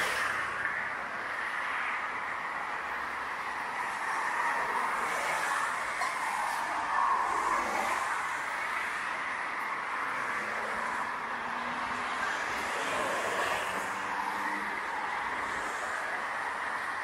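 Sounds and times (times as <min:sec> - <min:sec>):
road traffic tyre noise: 0:00.0 - 0:17.0.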